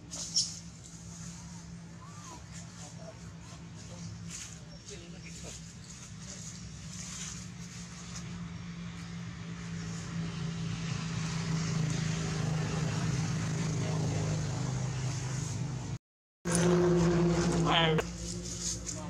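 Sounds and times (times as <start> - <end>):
motor engine humming: 0.1 - 19.0.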